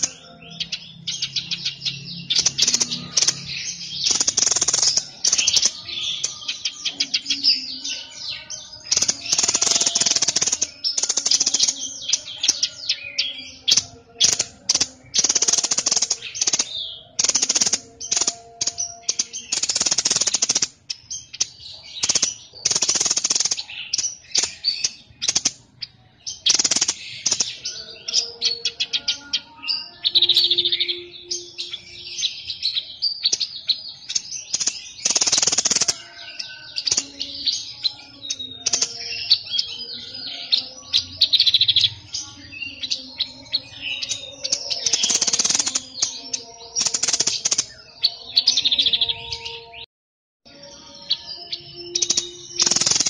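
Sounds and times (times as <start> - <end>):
songbird chirps and trills: 0.0 - 49.9, 50.5 - 53.0.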